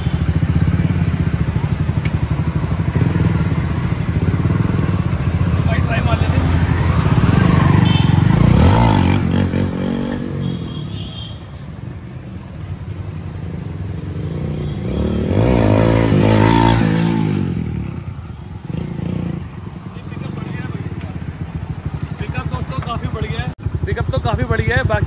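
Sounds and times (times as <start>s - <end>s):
motorcycle engine accelerating: 0.2s - 10.5s, 13.4s - 25.0s.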